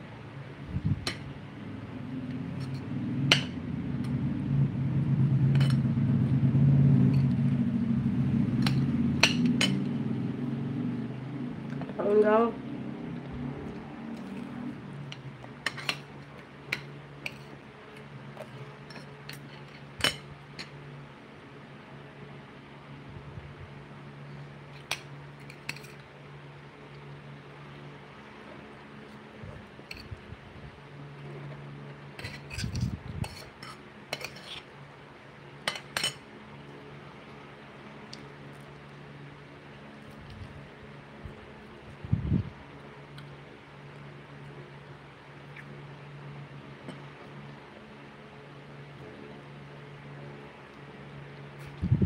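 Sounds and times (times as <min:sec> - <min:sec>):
electric fan hum: 0:00.0 - 0:52.0.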